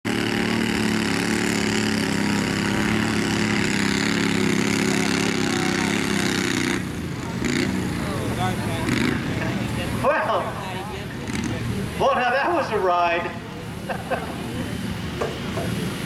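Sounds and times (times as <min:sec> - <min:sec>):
tractor engine running hard: 0:00.0 - 0:16.0.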